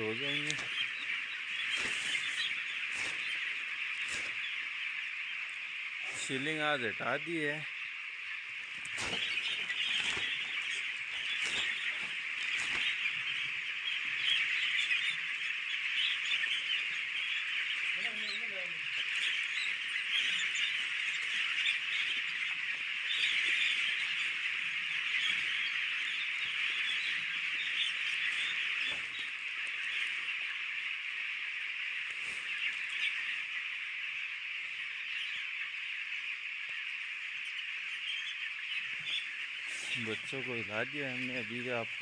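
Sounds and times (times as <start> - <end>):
flock of chicks peeping: 0.0 - 42.0.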